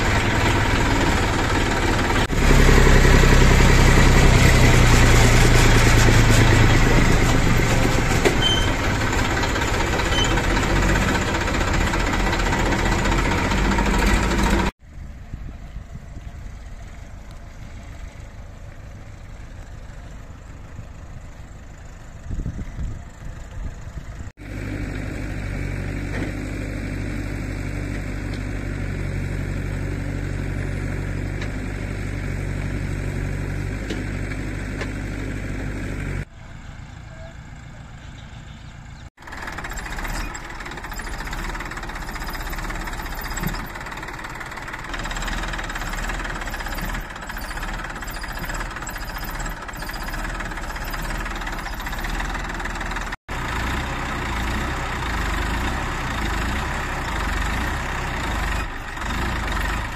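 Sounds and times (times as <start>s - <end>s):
backhoe loader engine: 0.0s - 59.9s
tractor engine running: 0.0s - 59.9s.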